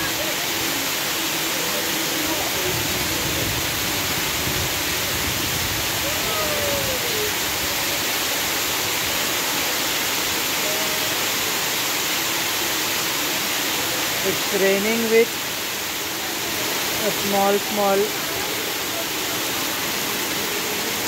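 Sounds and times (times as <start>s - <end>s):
heavy rain and snow falling: 0.0s - 21.0s.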